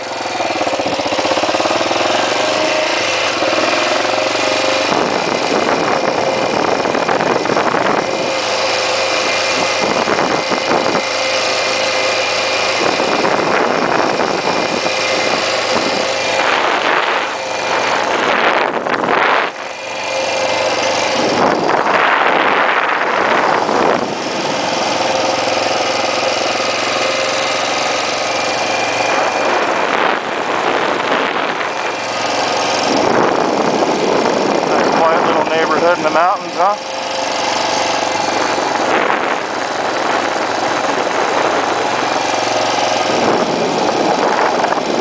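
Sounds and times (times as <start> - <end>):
constant rush of noise: 0.0 - 45.0
motorcycle engine running: 0.0 - 45.0.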